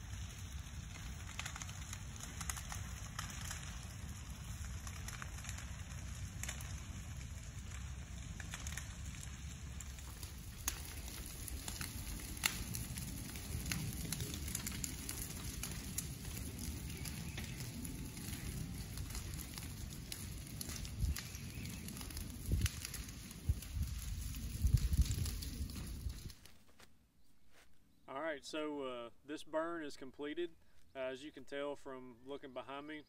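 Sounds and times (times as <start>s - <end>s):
low fire rumble: 0.0s - 26.5s
fire crackling: 0.0s - 26.9s.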